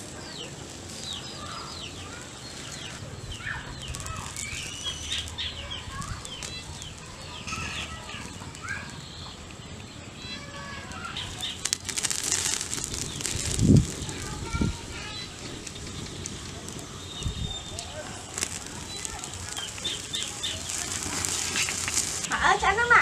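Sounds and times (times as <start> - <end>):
small birds chirping: 0.0 - 22.6
wood fire crackling: 0.0 - 23.0.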